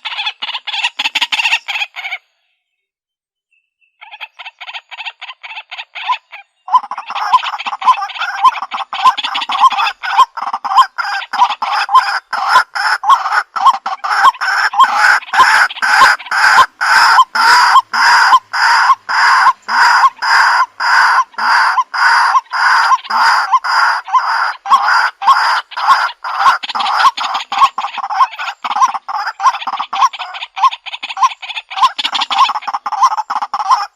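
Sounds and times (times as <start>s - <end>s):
waterhen harsh kwak call: 4.0s - 33.9s.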